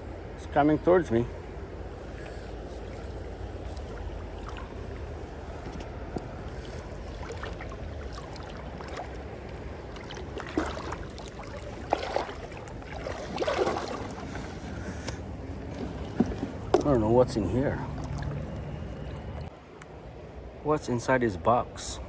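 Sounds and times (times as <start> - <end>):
river water flowing and lapping: 0.0 - 20.6
water splashing and sloshing: 1.4 - 19.6.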